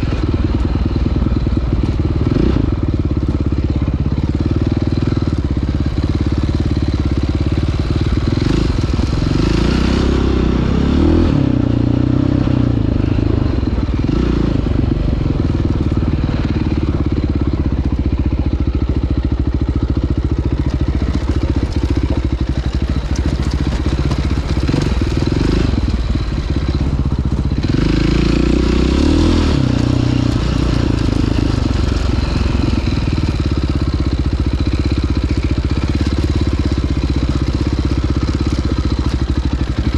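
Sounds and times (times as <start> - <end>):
dirt bike engine revving: 0.0 - 3.4, 4.2 - 39.9.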